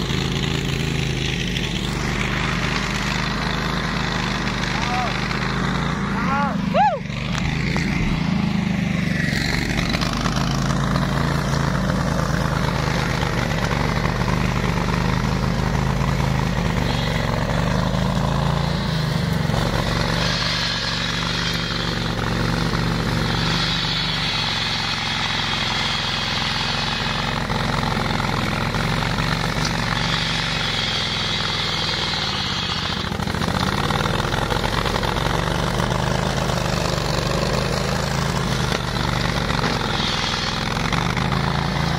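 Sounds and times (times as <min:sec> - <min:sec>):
mower engine running: 0:00.0 - 0:41.9.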